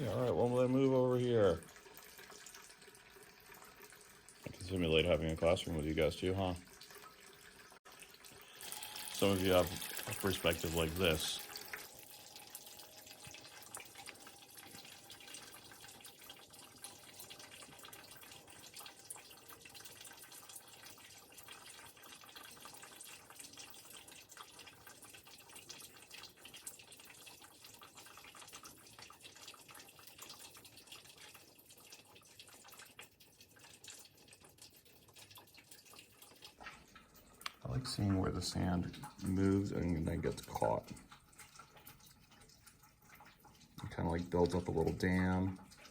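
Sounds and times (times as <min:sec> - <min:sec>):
water trickling and dripping: 0:00.0 - 0:45.9.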